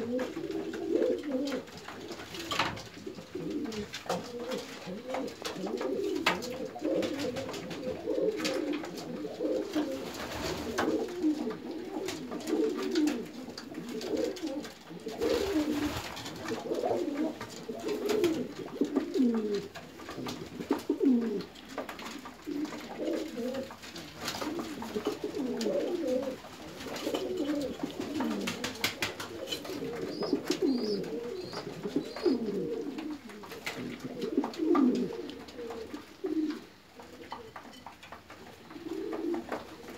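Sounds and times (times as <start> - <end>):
birds knocking and scuffling: 0.0 - 39.9
pigeons cooing: 0.0 - 39.9.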